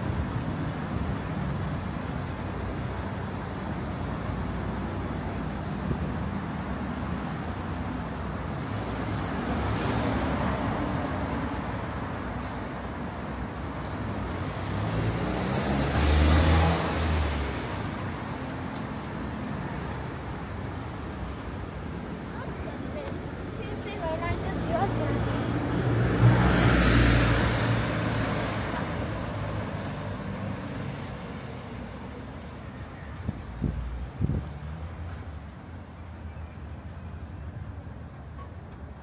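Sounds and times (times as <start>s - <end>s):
street traffic: 0.0s - 39.0s
vehicles passing close by: 0.0s - 39.0s.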